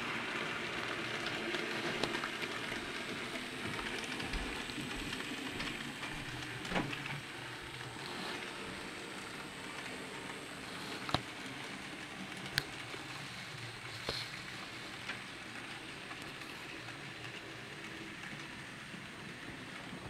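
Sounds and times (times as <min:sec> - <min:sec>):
model train whirring rattle: 0:00.1 - 0:20.0.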